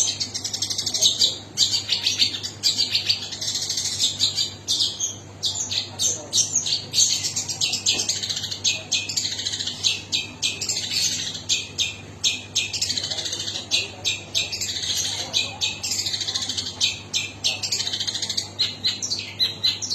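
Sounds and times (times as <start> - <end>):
bird singing chattering notes: 0.0 - 19.9.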